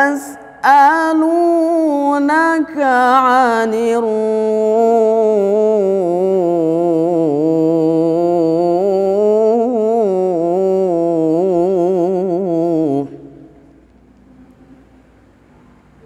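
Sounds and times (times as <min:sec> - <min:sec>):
man reciting melodically: 0:00.0 - 0:13.8.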